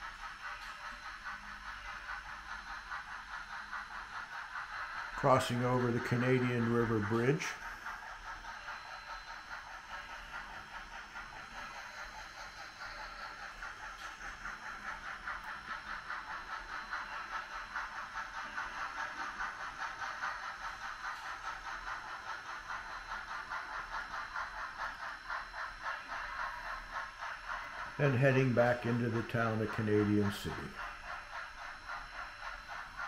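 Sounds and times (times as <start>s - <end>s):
model train rhythmic clatter: 0.0s - 33.0s.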